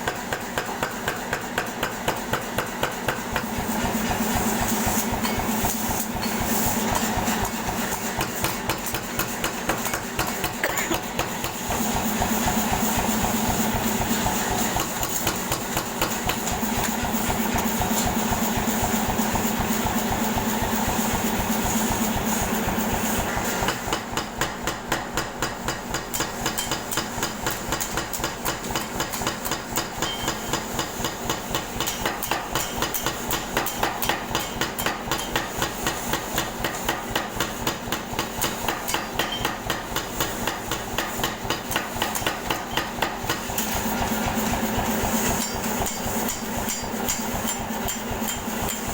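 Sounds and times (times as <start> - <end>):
air hammer pounding: 0.0 - 16.7, 23.0 - 48.9.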